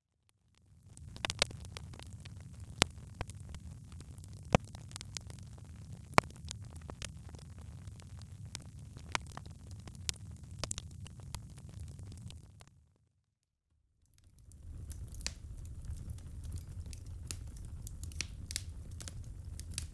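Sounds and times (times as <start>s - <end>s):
fire crackling and popping: 0.3s - 12.9s, 14.1s - 19.9s.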